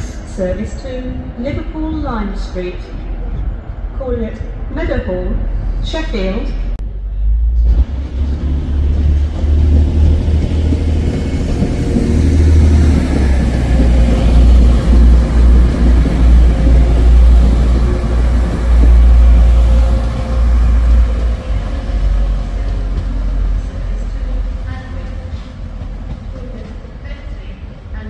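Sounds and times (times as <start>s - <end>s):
diesel train engine rumbling: 0.0s - 28.0s.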